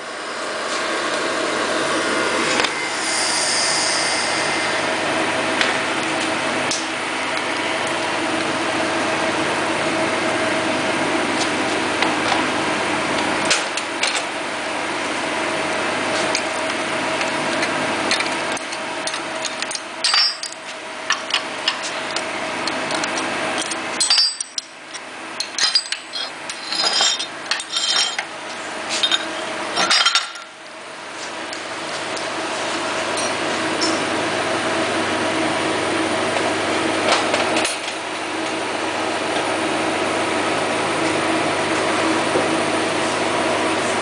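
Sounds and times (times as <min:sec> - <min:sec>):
workshop equipment humming: 0:00.0 - 0:44.0.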